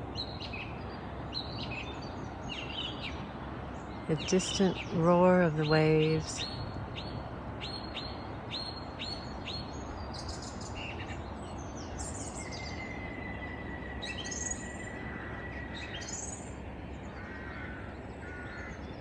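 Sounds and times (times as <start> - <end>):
distant surf: 0.0 - 19.0
songbirds singing: 0.0 - 19.0.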